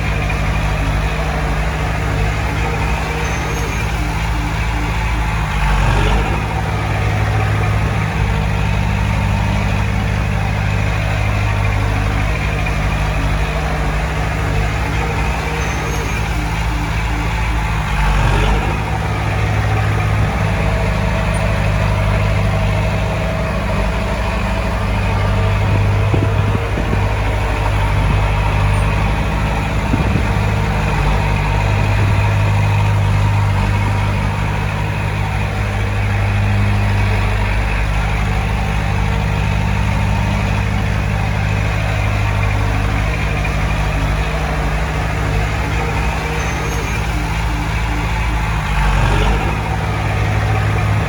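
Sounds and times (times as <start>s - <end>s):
heavy machinery diesel engine: 0.0s - 51.0s.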